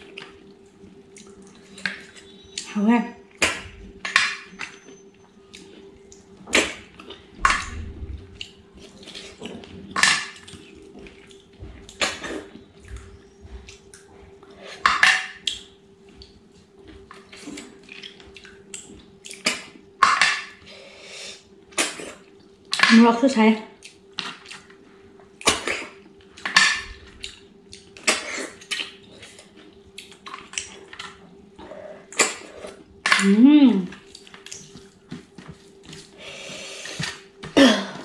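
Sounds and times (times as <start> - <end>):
person chewing: 0.0 - 2.6, 3.3 - 19.8, 23.8 - 38.0
faint steady hum: 0.0 - 38.0.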